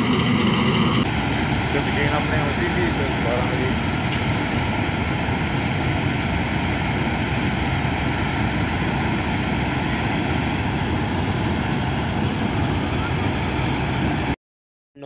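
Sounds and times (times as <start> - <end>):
harvester and tractor engine drone: 0.0 - 14.4.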